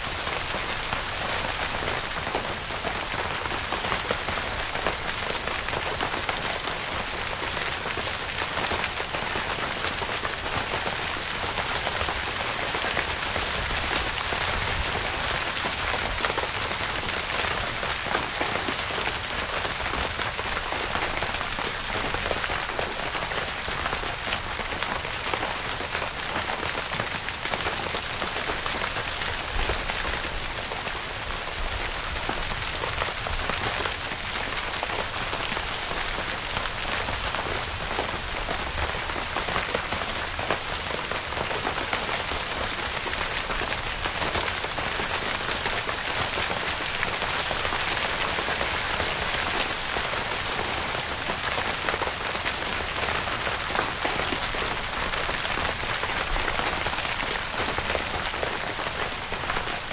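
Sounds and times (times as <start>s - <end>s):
rain on a tent: 0.0s - 59.9s.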